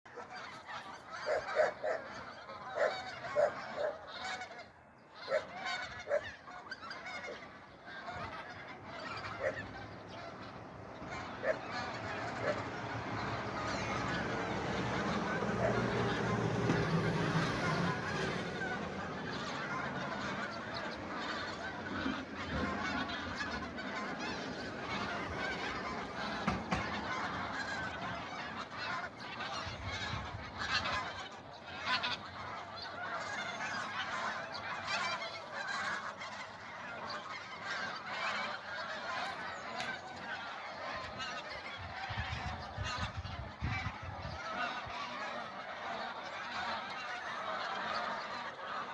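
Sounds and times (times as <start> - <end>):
geese honking: 0.1 - 48.9.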